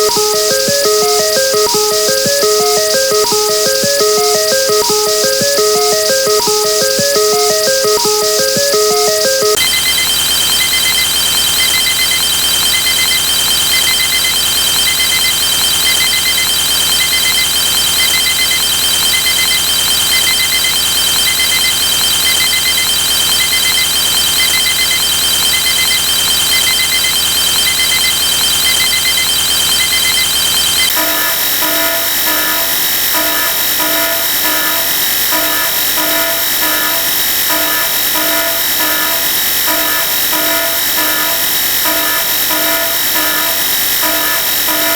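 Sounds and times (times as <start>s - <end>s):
harsh electronic buzzer sounds: 0.0s - 44.9s
short electronic beeps: 0.0s - 44.9s.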